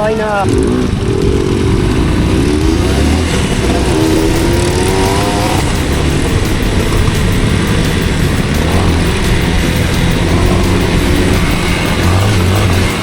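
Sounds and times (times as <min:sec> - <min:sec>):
motorcycle engine accelerating: 0:00.0 - 0:13.0
steady rushing noise: 0:00.0 - 0:13.0.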